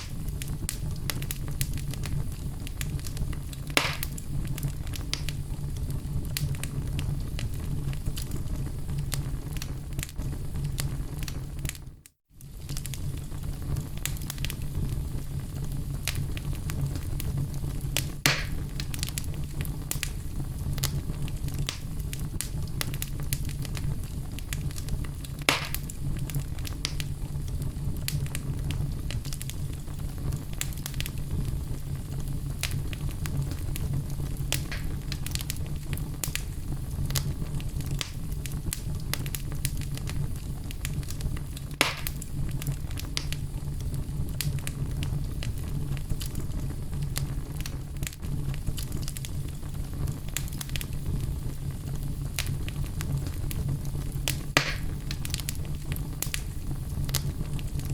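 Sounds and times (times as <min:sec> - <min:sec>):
fire crackling and popping: 0:00.0 - 0:57.9
low rumble of flames: 0:00.0 - 0:57.9.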